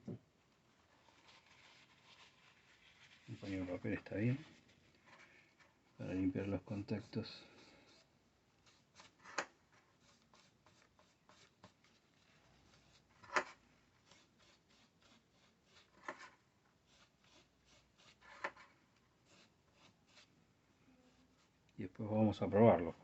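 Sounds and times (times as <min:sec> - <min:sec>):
paper towel wiping: 0:00.7 - 0:18.5, 0:19.2 - 0:20.3.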